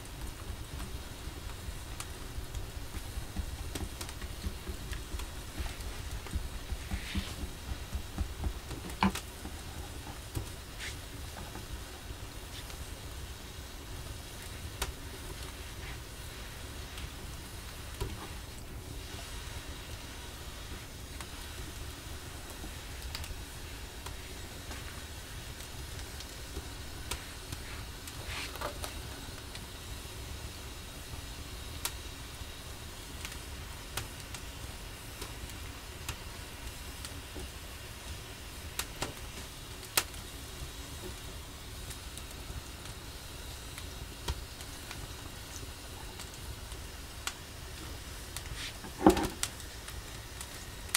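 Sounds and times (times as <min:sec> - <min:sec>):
fire low rumble: 0:00.0 - 0:50.9
wood fire crackling and popping: 0:00.0 - 0:50.9.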